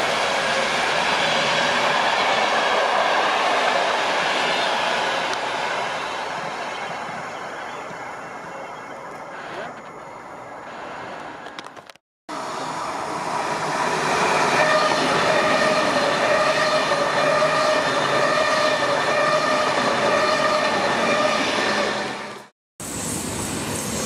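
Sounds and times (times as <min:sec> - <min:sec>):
high-speed train passing: 0:00.0 - 0:08.6, 0:12.3 - 0:24.0.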